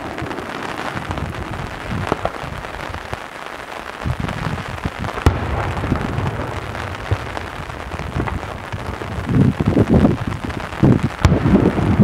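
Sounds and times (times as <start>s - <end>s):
fireworks booming and crackling: 0.0s - 12.0s
sharp firework crack: 0.0s - 12.0s.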